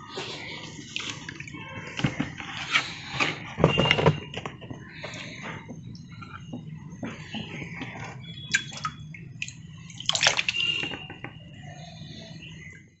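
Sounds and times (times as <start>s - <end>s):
water splashing in a tank: 0.4s - 2.5s, 4.0s - 12.5s.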